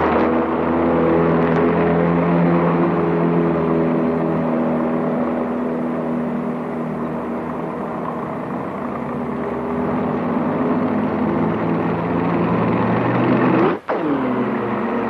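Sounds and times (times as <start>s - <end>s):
rough noise: 0.0s - 15.0s
vehicle engine running: 0.0s - 15.0s.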